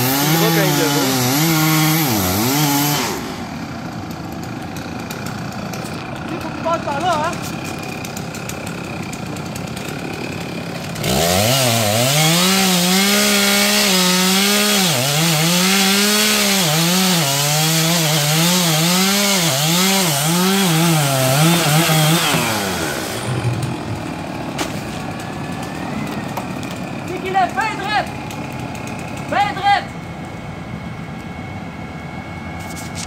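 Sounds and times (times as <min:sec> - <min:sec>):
chainsaw cutting through tree trunk: 0:00.0 - 0:29.8.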